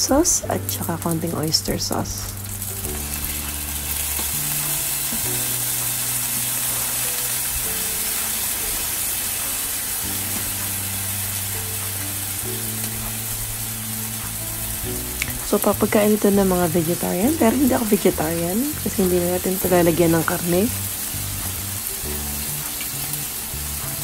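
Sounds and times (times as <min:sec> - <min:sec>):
eggplant sizzling in hot oil: 0:00.0 - 0:24.0
soft background music: 0:00.0 - 0:24.0.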